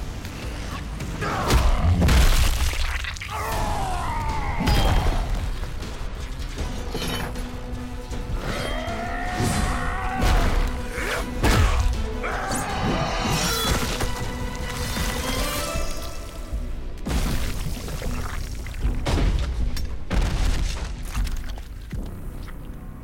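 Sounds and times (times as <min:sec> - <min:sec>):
dramatic score music: 0:00.0 - 0:23.0.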